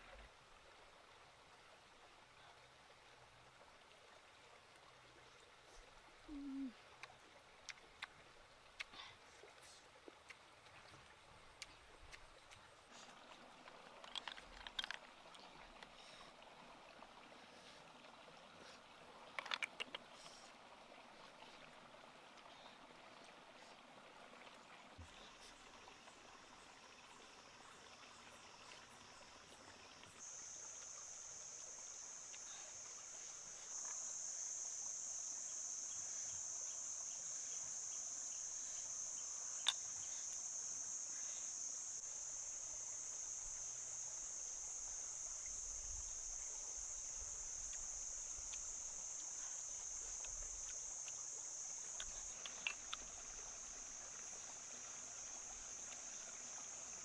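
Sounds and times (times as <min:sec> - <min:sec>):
insects droning: 0:02.4 - 0:09.2, 0:11.1 - 0:57.0.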